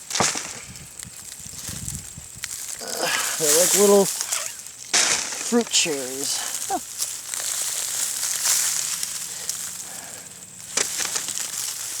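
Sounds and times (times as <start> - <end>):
soil rustling and crunching: 0.0 - 12.0.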